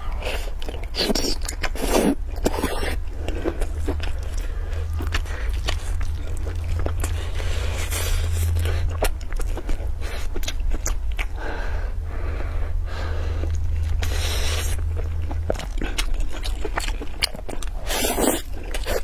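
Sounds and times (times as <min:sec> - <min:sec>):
chewing and wet mouth sounds: 0:00.0 - 0:11.8, 0:12.9 - 0:19.0
steady low hum: 0:00.0 - 0:19.0.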